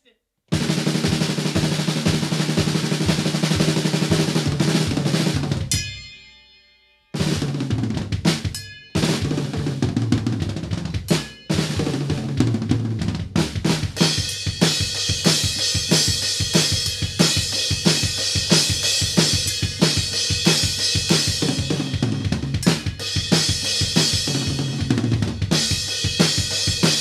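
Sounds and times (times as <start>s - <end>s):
drum fills: 0.5s - 5.9s, 7.2s - 27.0s.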